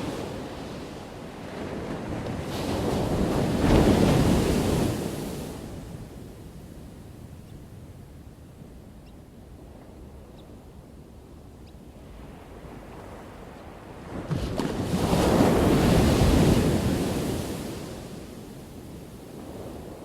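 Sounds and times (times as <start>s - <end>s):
ocean surf rumble: 0.0s - 8.7s, 9.4s - 20.0s.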